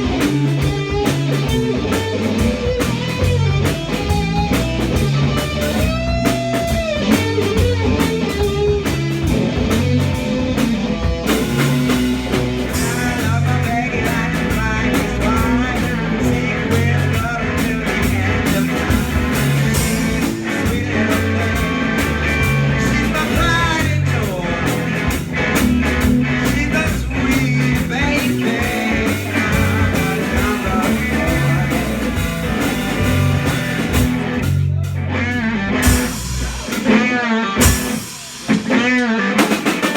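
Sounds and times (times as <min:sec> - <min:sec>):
electric guitar: 0:00.0 - 0:39.9
live rock band: 0:00.0 - 0:39.9.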